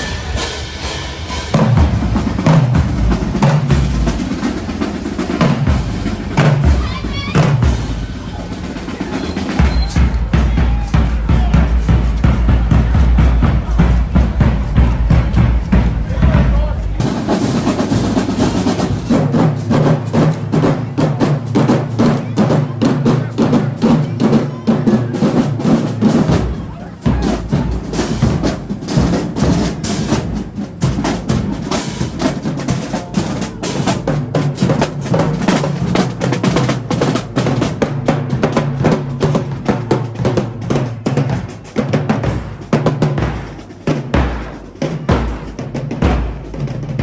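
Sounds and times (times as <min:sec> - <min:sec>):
deep drums: 0:00.0 - 0:47.0
marching drumline playing: 0:00.0 - 0:47.0.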